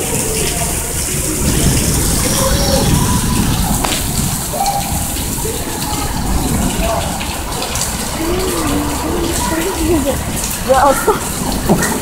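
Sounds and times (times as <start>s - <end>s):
faint voices: 0.0s - 12.0s
gushing water: 0.0s - 12.0s
steady rain: 0.0s - 12.0s.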